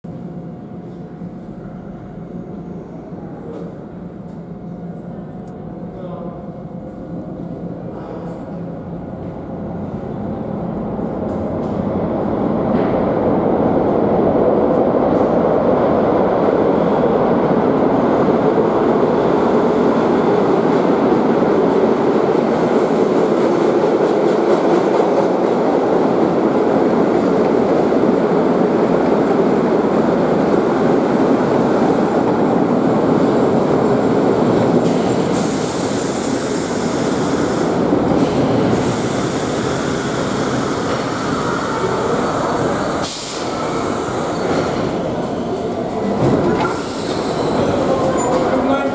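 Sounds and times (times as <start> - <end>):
subway train roaring past: 0.1 - 48.9.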